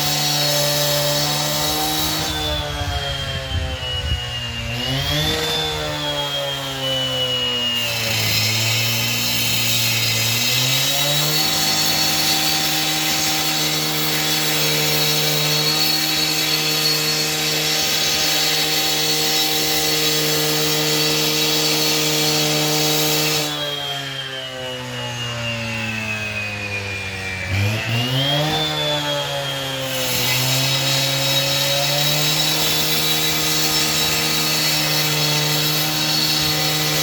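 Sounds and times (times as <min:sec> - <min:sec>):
power saw motor whining: 0:00.0 - 0:37.0.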